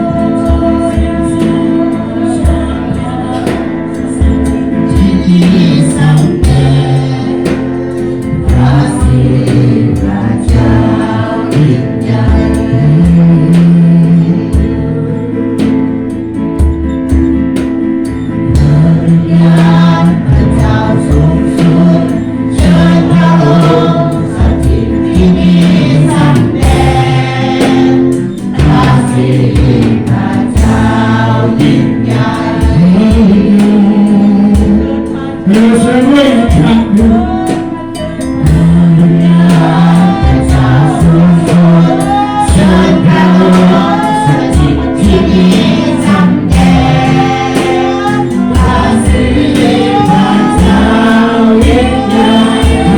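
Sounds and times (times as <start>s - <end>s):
group singing worship song: 0.0s - 52.9s
guitar: 0.0s - 52.9s
steady beat: 0.0s - 52.9s.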